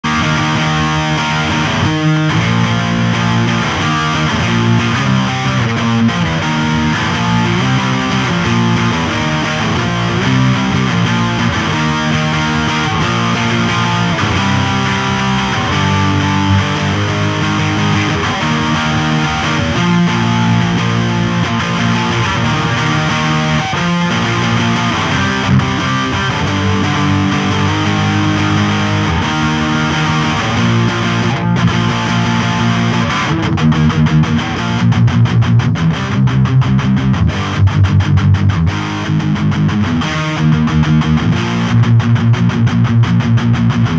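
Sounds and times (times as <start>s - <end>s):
distorted electric guitar riffs: 0.0s - 43.9s.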